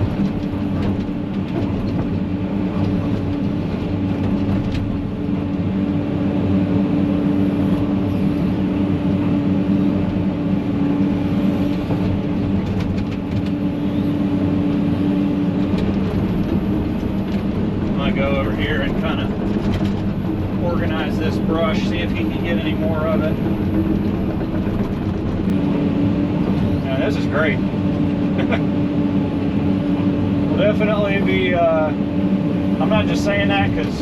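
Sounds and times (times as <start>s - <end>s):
excavator diesel engine droning: 0.0s - 34.0s.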